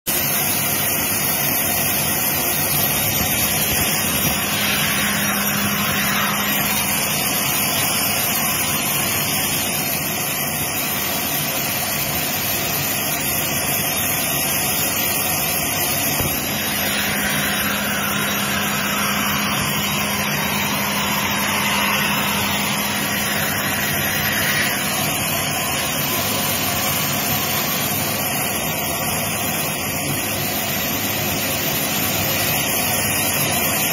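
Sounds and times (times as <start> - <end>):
band saw cutting log: 0.2 - 33.9.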